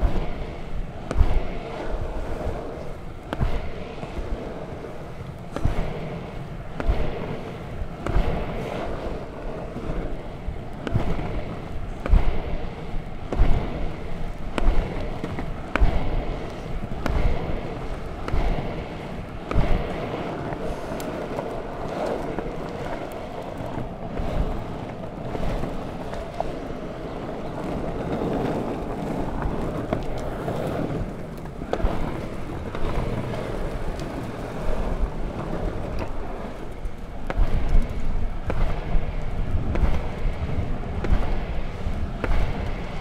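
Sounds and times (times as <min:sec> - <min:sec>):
longboard wheels rolling: 0:00.0 - 0:43.0
wind noise on microphone: 0:00.0 - 0:43.0.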